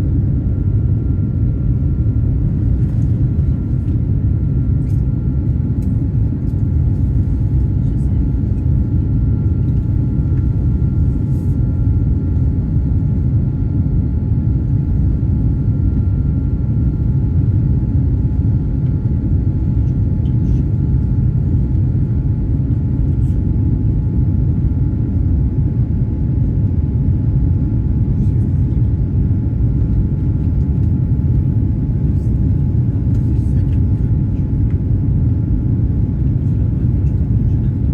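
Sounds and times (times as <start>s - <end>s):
jet engines deep rumble: 0.0s - 37.9s.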